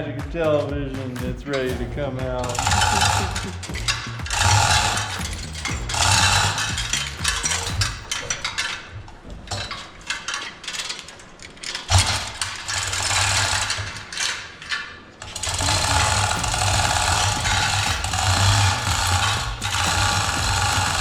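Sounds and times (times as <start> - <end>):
sharp metal clicks: 1.0 - 8.9, 9.5 - 21.0
rapid mechanical rattling: 1.0 - 21.0.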